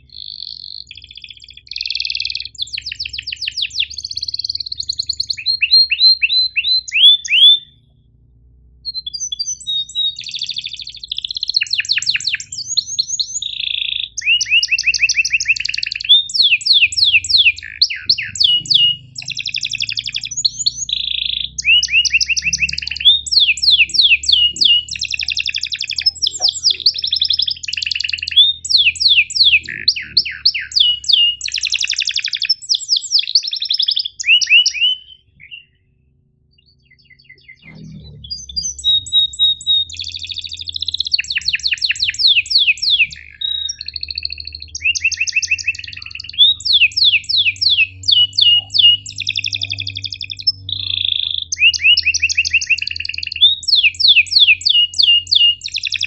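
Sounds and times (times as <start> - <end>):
canary singing: 0.0 - 8.1, 8.7 - 56.0.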